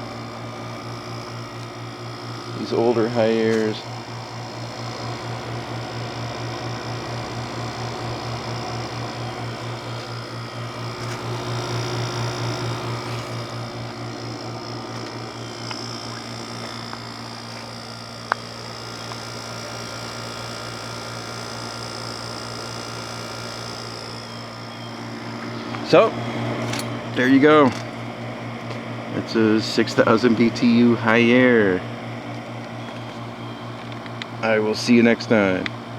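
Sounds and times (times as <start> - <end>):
air conditioner running: 0.0 - 35.9.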